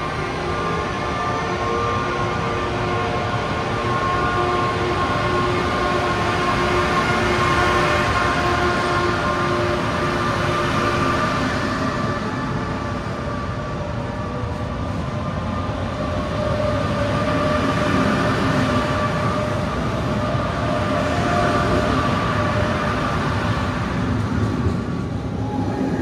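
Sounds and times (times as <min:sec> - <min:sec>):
electric train traction whine: 0:00.0 - 0:26.0
train running rumble: 0:00.0 - 0:26.0.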